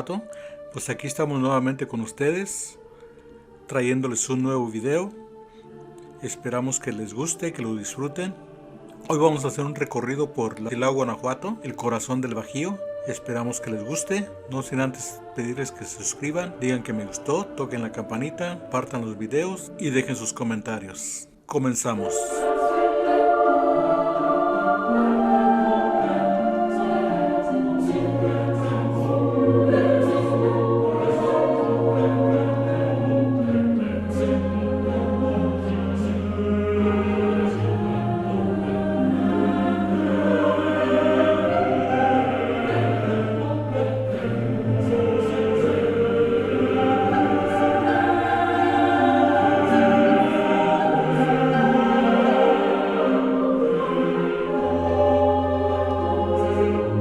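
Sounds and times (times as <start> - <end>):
choir singing held chords: 0.0 - 57.0.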